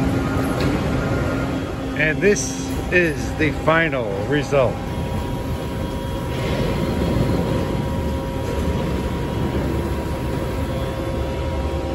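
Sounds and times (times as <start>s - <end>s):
faint constant hum: 0.0s - 11.9s
shredding machinery rumbling: 0.0s - 11.9s.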